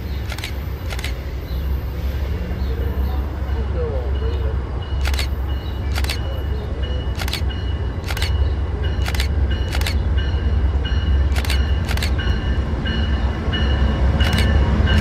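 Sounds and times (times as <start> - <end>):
train rumble: 0.0 - 15.0
railway warning bell clanging: 2.6 - 15.0.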